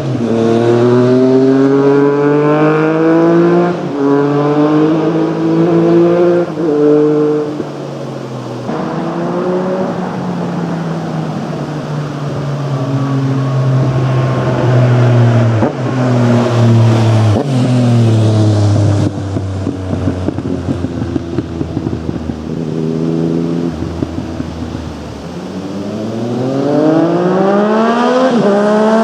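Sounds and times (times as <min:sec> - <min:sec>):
exhaust crackling: 0:00.0 - 0:28.7
motorcycle engine revving: 0:00.0 - 0:29.0.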